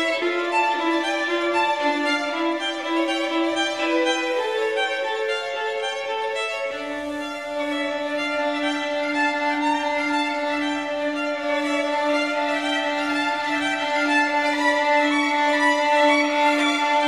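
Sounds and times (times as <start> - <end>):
violin playing long notes: 0.0 - 17.0.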